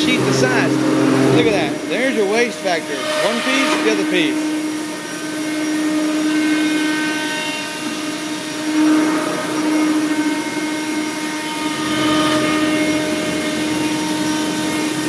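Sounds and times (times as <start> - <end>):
cnc router spindle whine: 0.0 - 15.0.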